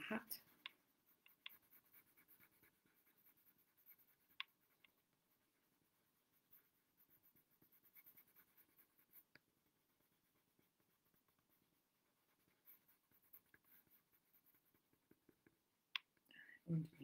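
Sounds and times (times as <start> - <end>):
pencil scratching on paper: 0.0 - 15.6.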